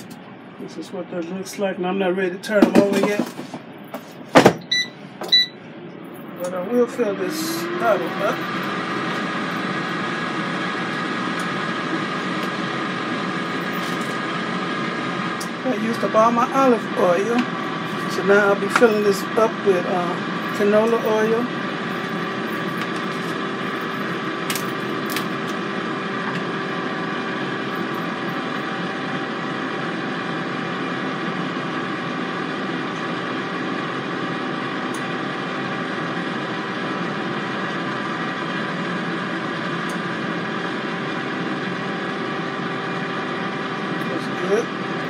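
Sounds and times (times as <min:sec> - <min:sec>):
air fryer fan humming: 0:00.0 - 0:45.0.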